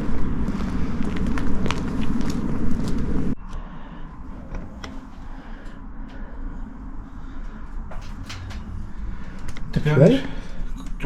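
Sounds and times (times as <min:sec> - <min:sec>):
loud low rumbling: 0:00.0 - 0:11.0.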